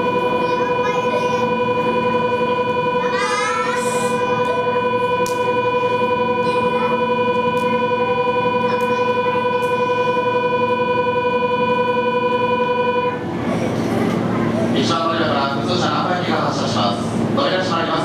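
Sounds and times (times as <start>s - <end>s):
electric train whine: 0.0s - 18.0s.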